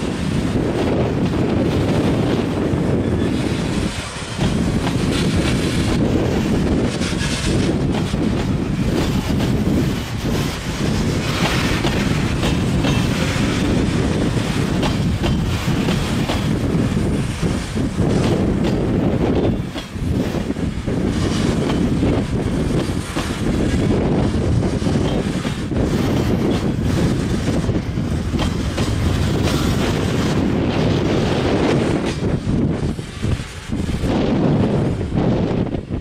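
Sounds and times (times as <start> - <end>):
train rumbling past: 0.0 - 36.0
wheels clicking over rail joints: 3.2 - 34.0.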